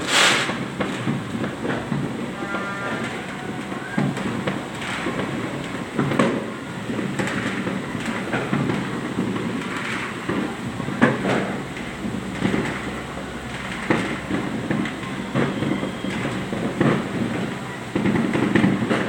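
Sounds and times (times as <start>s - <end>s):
fireworks and firecrackers bangs: 0.0s - 19.0s.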